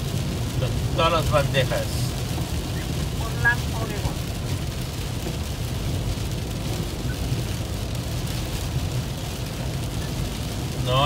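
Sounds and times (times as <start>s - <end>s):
rain hissing on windshield: 0.0s - 11.0s
road and engine rumble: 0.0s - 11.0s.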